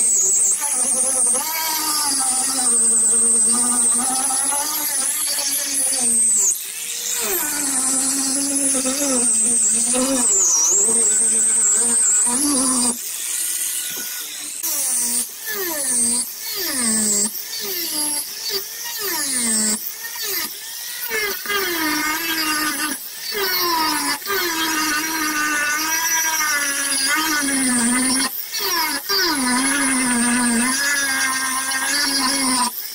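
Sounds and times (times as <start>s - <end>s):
power grinder grinding fiberglass: 0.0s - 32.9s.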